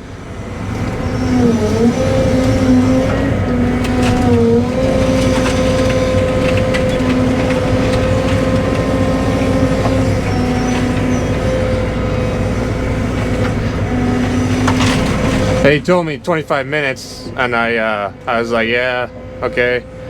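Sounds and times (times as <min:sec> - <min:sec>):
excavator engine and hydraulics humming: 0:00.0 - 0:20.0.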